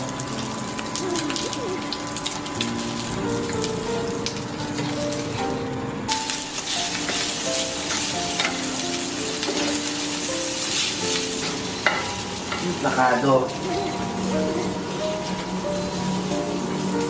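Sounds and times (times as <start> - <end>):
rice sizzling in a frying pan: 0.0 - 17.0
soft melody: 0.0 - 17.0.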